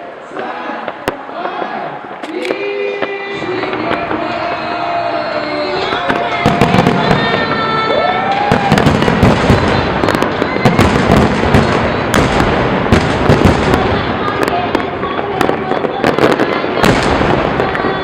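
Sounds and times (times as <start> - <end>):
fireworks crackling and banging: 0.8 - 18.0.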